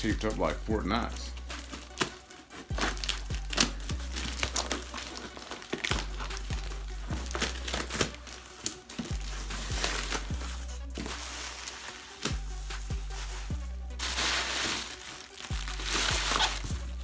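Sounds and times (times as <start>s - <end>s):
music with deep bass beat: 0.0s - 17.0s
cardboard rustling: 1.0s - 17.0s
packing tape tearing: 1.4s - 12.4s, 14.0s - 16.9s.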